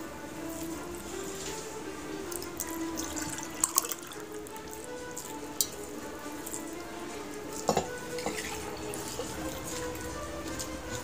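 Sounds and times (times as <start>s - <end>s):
fingers squishing rice: 0.0s - 11.0s
soft background music: 0.0s - 11.0s.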